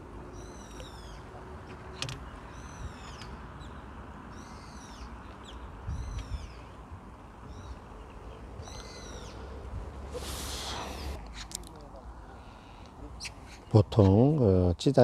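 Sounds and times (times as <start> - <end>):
small birds chirping: 0.3 - 14.4.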